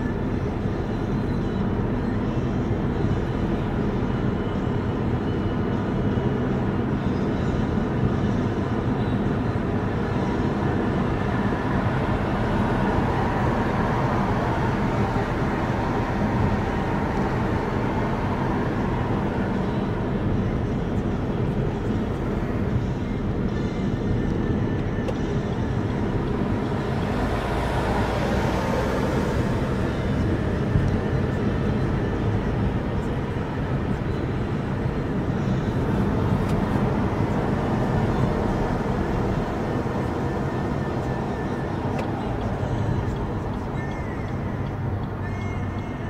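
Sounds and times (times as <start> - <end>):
car engine: 0.0 - 46.0
tyre road noise: 0.0 - 46.0.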